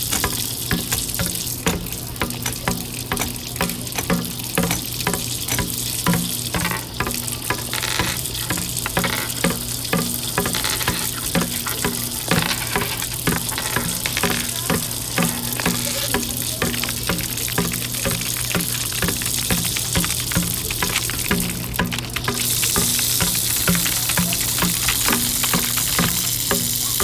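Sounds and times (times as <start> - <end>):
rhythmic clicks and thumps: 0.0 - 27.0
tap water running: 0.0 - 27.0.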